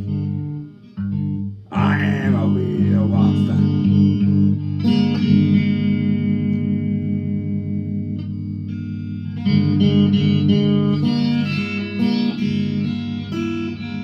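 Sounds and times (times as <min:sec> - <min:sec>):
picked guitar melody: 0:00.0 - 0:14.0
low guitar pattern: 0:00.4 - 0:12.8.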